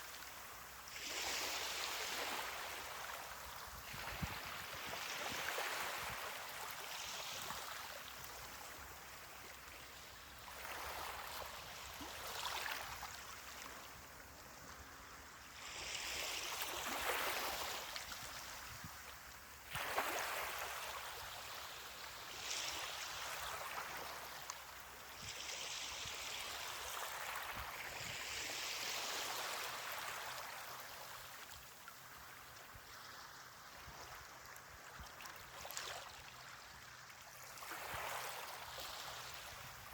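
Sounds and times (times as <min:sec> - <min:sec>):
small ocean waves washing onto beach: 0:00.0 - 0:39.9.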